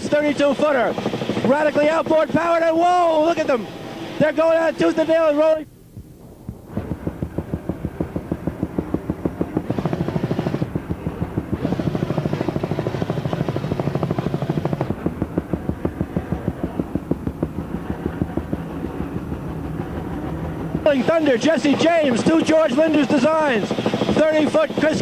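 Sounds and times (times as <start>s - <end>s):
engine drone: 0.0s - 5.4s, 6.0s - 25.0s
helicopter rotor thudding: 0.0s - 25.0s.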